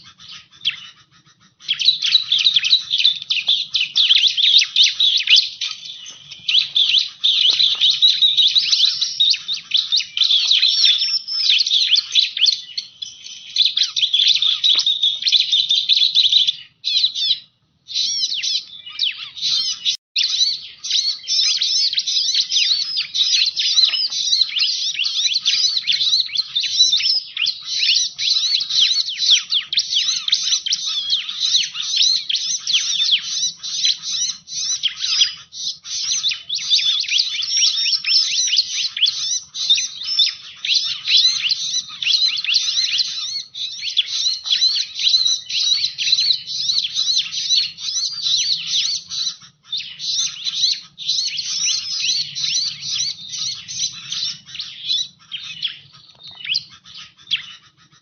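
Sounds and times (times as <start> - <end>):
bird rapid high chirps: 0.0 - 58.0.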